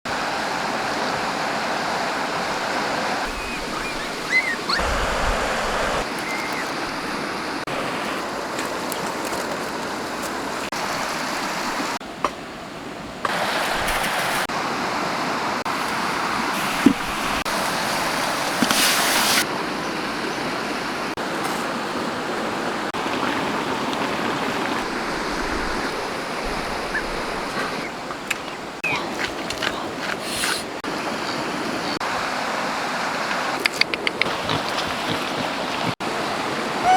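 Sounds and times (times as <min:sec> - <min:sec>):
stream rushing: 0:00.1 - 0:36.9.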